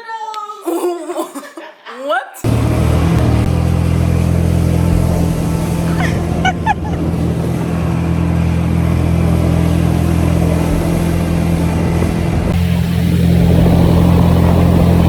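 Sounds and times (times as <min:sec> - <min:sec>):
engine humming: 0:02.4 - 0:15.0.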